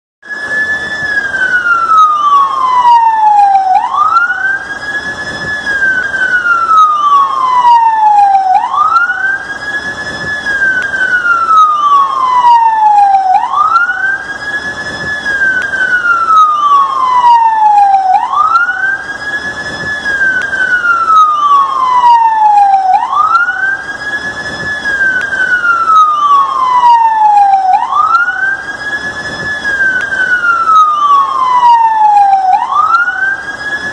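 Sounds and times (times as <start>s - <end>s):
emergency siren slow wail: 0.2s - 33.9s.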